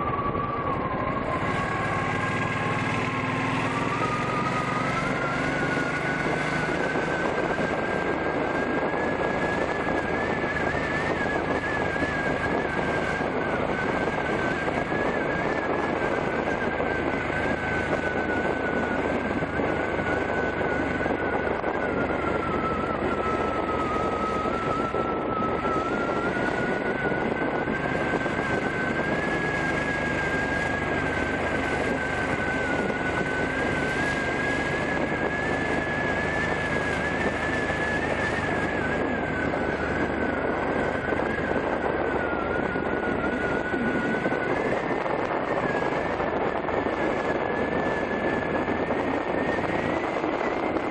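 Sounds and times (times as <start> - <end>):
motorcycle engine whine: 0.0 - 50.9
wind rush: 0.0 - 50.9.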